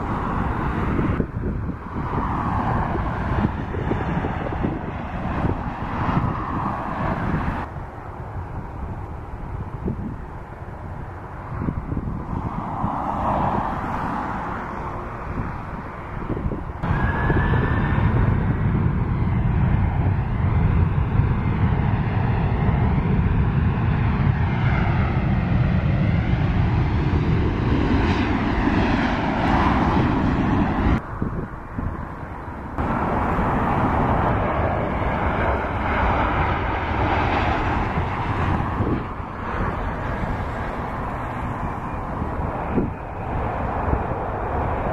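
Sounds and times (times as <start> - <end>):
jet engines running: 0.0 - 44.9
rising engine whine: 0.0 - 44.9.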